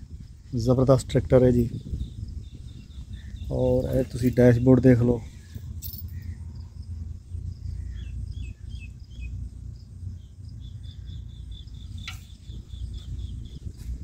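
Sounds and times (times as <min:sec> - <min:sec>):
low rumble: 0:00.0 - 0:14.0
birds chirping: 0:00.3 - 0:14.0.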